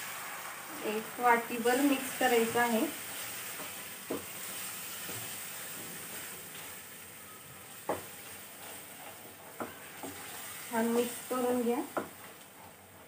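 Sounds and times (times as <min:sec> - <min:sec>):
paste sizzling in a pan: 0:00.0 - 0:13.0.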